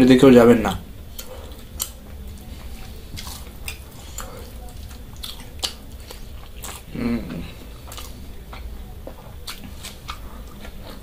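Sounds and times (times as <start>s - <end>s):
low steady hum: 0.0s - 11.0s
chewing and mouth sounds: 1.1s - 11.0s.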